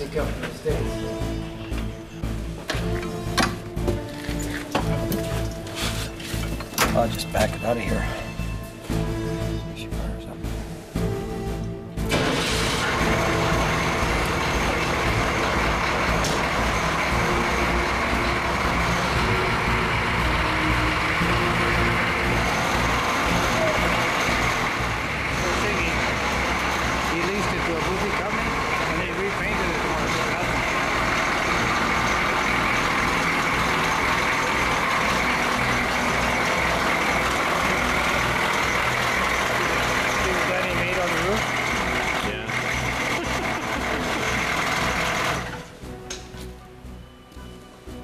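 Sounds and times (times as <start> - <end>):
vehicle engine running: 0.0 - 47.1.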